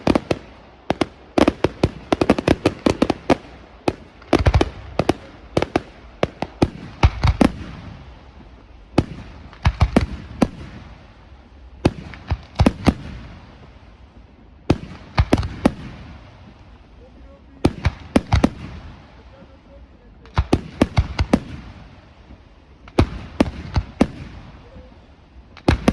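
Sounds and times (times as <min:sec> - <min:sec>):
fireworks bursting with sharp bangs: 0:00.0 - 0:25.9.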